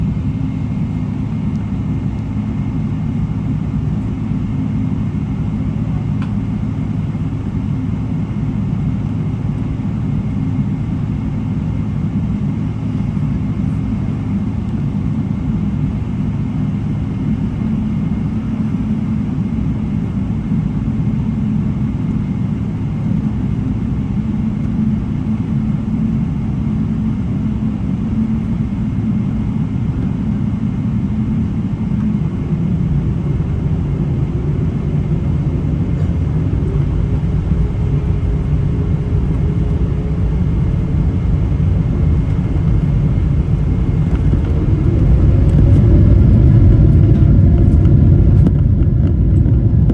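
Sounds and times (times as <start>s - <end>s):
jet airliner rumble: 0.0s - 49.9s.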